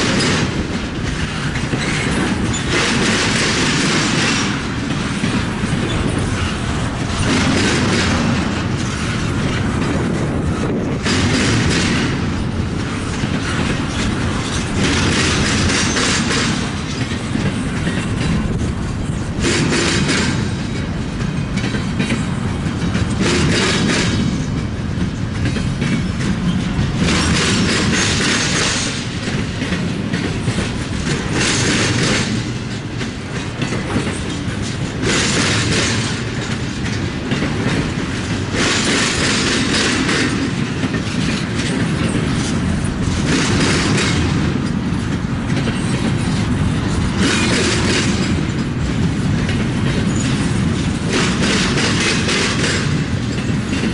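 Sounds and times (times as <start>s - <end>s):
train cars rumbling past: 0.0s - 53.9s
wheels clacking over rails: 0.0s - 53.9s.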